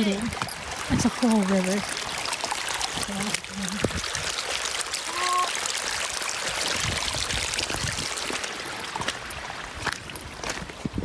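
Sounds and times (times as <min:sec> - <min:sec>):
river water rushing: 0:00.0 - 0:10.8.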